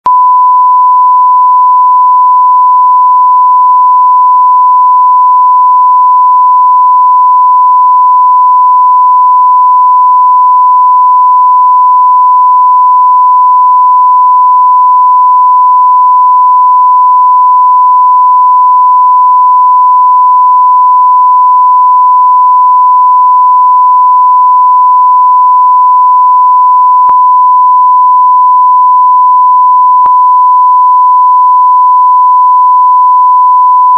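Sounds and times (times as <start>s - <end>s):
censor bleep tone: 0.0s - 33.9s.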